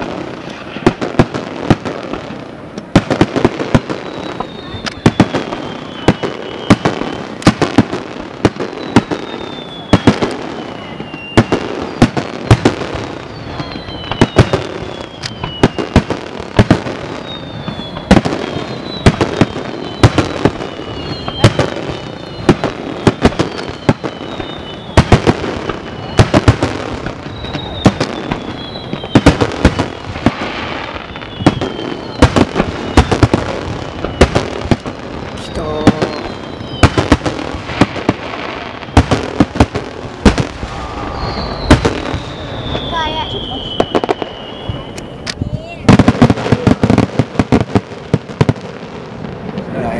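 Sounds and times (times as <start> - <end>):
firework shells booming: 0.0 - 49.7
firework whistles gliding down: 0.0 - 49.9.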